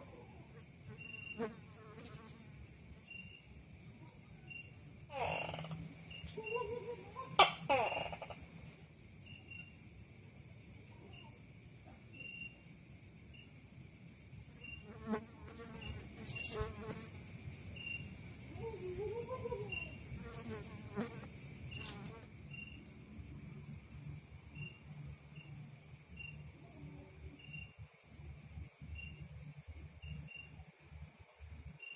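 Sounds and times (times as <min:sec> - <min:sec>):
crickets trilling: 0:00.0 - 0:31.9
insect chirping: 0:00.0 - 0:31.9.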